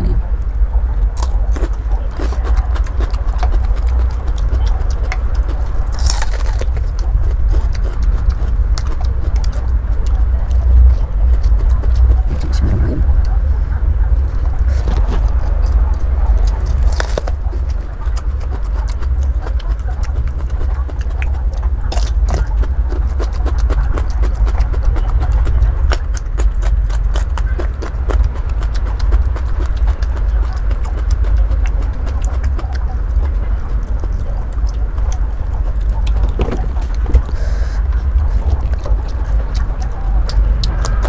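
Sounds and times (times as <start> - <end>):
crunching and chewing: 0.0 - 41.0
low rumble: 0.0 - 41.0.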